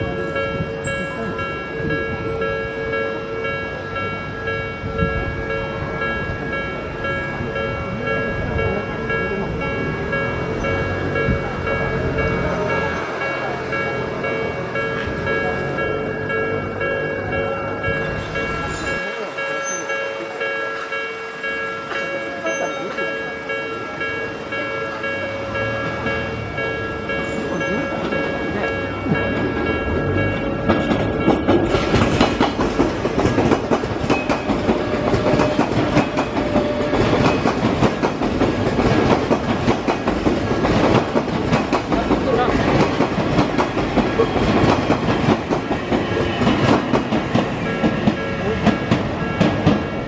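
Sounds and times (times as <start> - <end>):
level-crossing warning bell: 0.0 - 50.0
train rumble: 0.0 - 50.0.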